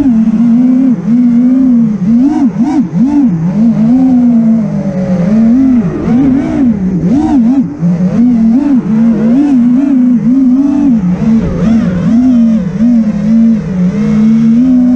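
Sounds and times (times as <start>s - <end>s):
drone motors whining: 0.0s - 14.9s.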